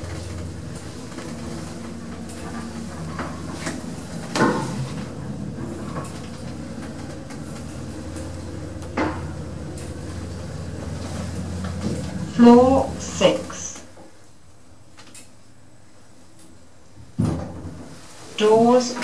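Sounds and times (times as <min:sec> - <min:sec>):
lift running hum: 0:00.0 - 0:19.0.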